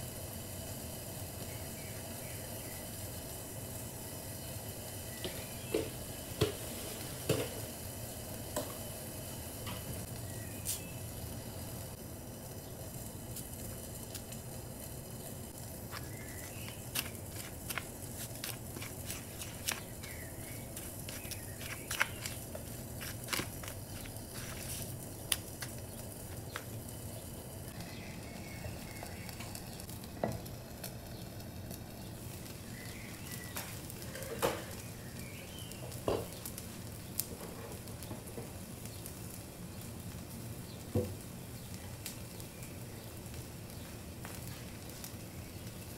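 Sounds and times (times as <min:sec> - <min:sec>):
kebabs sizzling on a griddle: 0:00.0 - 0:45.9.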